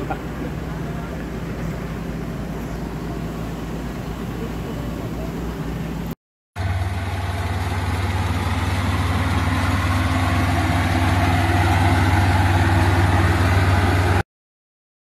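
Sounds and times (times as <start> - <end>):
excavator diesel engine droning: 0.0 - 14.2.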